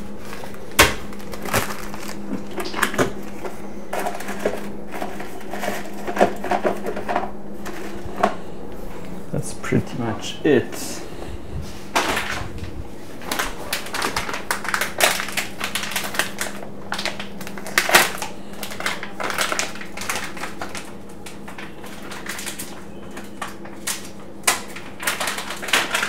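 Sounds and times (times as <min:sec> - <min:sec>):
paper bag crinkling: 0:00.0 - 0:09.0, 0:09.9 - 0:26.0.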